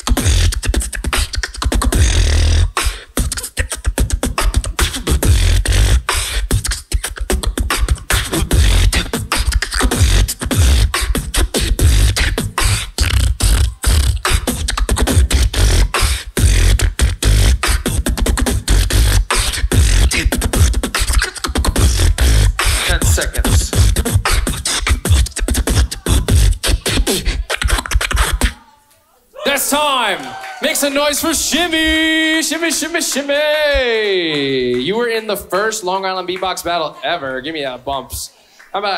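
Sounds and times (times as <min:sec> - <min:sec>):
beatboxing through a pa: 0:00.0 - 0:28.7, 0:31.0 - 0:36.5.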